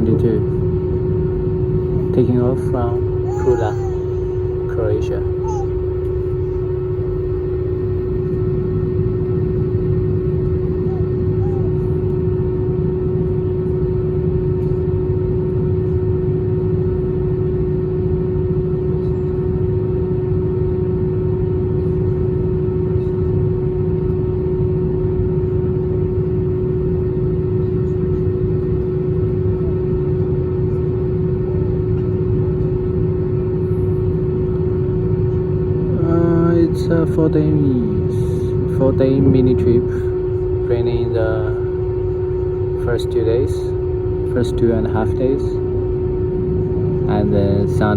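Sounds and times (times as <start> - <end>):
airliner cabin rumble: 0.0 - 17.4, 18.5 - 47.9
jet engines idling hum: 0.0 - 47.9.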